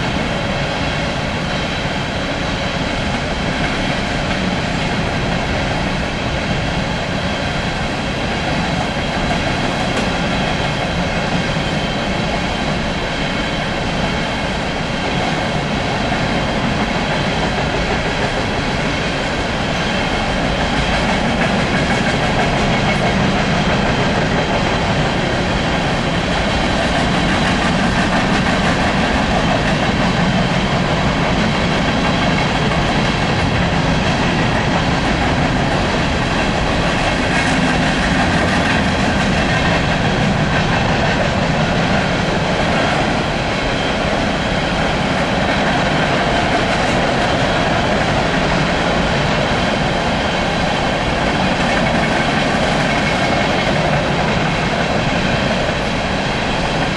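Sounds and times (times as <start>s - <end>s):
freight train wheels clattering: 0.0s - 56.9s.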